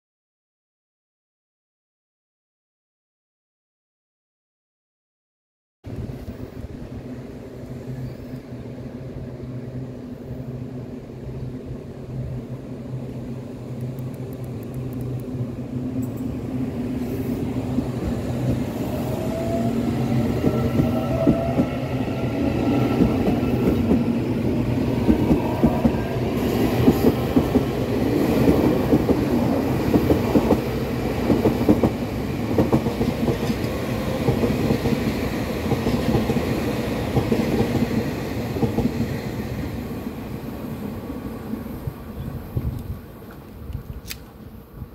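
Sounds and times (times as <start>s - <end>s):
electric train approaching: 5.9s - 43.5s.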